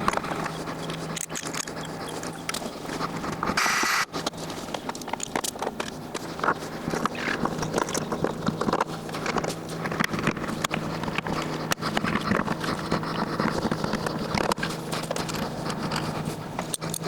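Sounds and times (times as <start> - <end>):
hand tools clicking and knocking: 0.0 - 17.0
steady low hum: 0.0 - 17.0.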